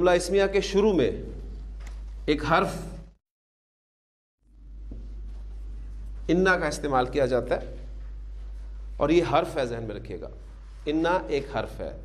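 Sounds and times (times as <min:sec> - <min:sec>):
room tone with low hum: 0:00.0 - 0:03.2, 0:04.4 - 0:12.0.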